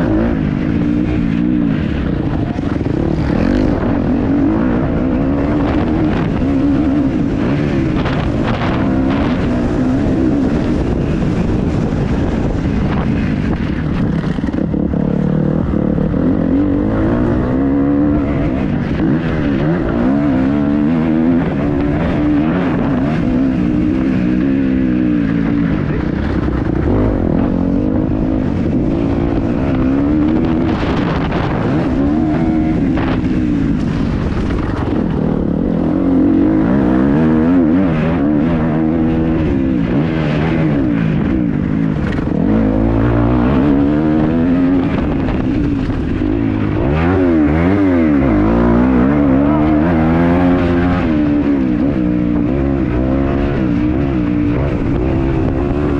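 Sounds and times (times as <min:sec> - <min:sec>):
motocross engine revving: 0:00.0 - 0:55.9.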